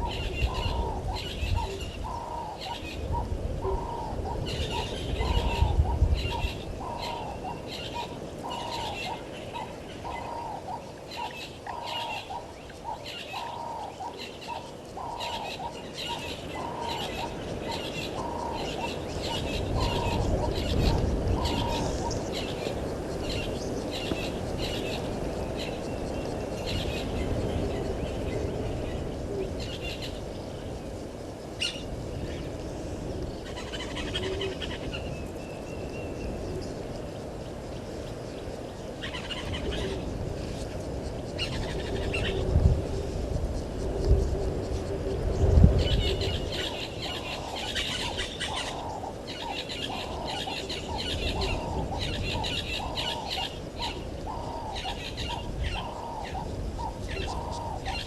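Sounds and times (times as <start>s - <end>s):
small birds chirping: 0.0s - 42.5s, 43.5s - 58.0s.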